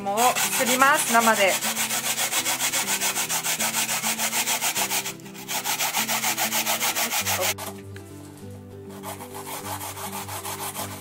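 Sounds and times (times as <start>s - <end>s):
potato rasping on a grater: 0.0s - 7.8s, 8.9s - 11.0s.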